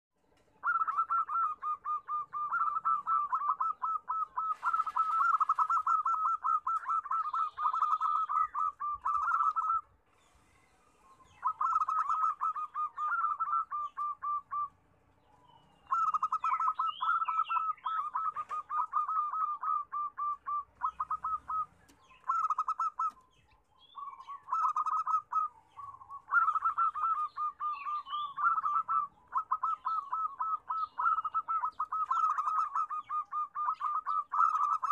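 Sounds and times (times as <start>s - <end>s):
small birds chirping: 0.2s - 34.9s
doves cooing: 0.6s - 34.9s.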